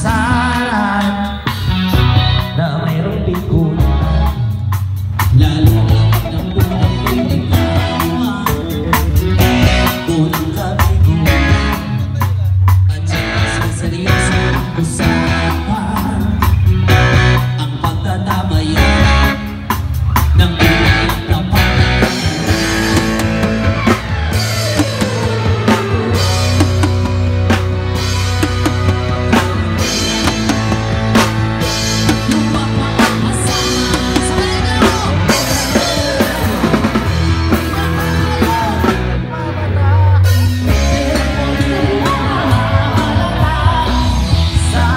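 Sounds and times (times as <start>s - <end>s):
bass line: 0.0s - 44.9s
drum kit: 0.0s - 44.9s
guitar: 0.0s - 44.9s
keyboard: 0.0s - 44.9s.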